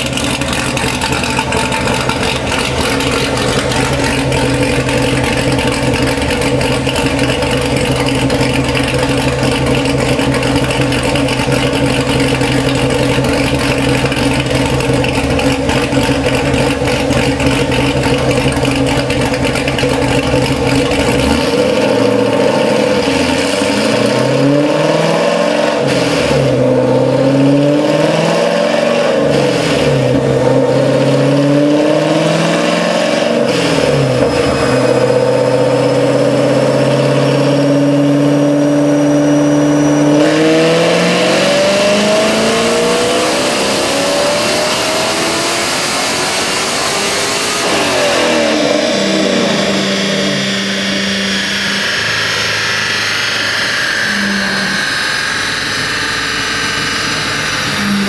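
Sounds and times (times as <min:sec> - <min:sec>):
car engine revving on dyno: 0:00.0 - 0:58.0.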